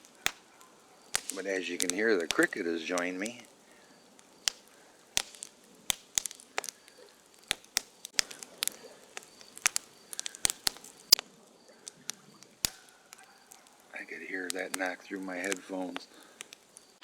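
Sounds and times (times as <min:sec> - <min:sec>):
faint cricket chirping: 0:00.0 - 0:17.0
wood fire crackling and popping: 0:00.0 - 0:17.0.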